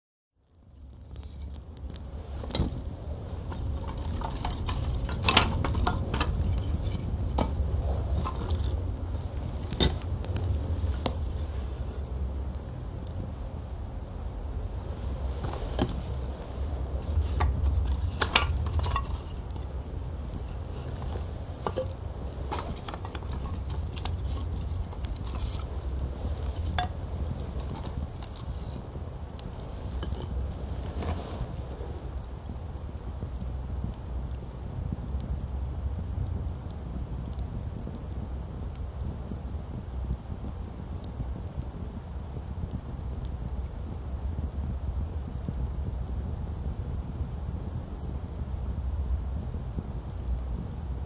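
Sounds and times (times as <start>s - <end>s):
campfire crackling: 0.4s - 51.0s
fire low rumble: 0.4s - 51.0s.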